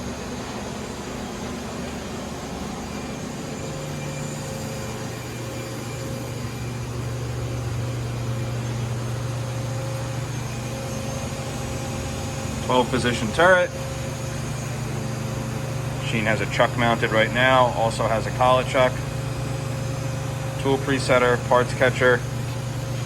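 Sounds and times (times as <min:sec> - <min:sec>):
machine hum: 0:00.0 - 0:23.0
higher low machine tone: 0:02.3 - 0:23.0.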